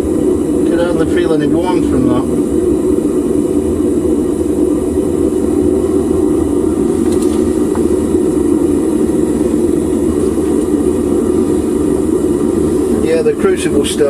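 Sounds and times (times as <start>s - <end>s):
furnace burner rushing: 0.0s - 14.0s.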